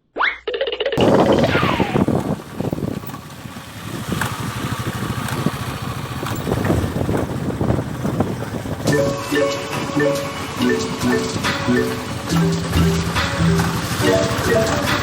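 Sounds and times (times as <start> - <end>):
motorcycle riding: 1.0 - 15.0
wind noise on microphone: 1.0 - 15.0.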